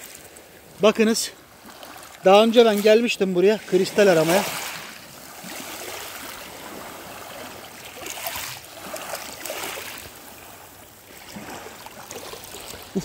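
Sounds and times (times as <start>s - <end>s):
small waves washing over pebbles: 0.0s - 13.0s.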